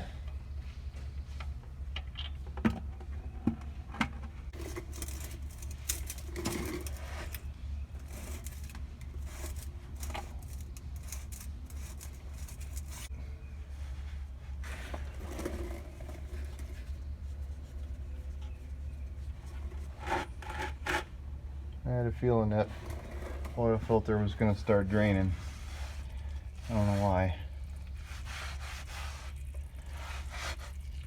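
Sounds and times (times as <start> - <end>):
steady low hum: 0.0 - 31.0
tools scraping and rustling: 3.9 - 13.1, 13.7 - 21.2, 22.5 - 30.9.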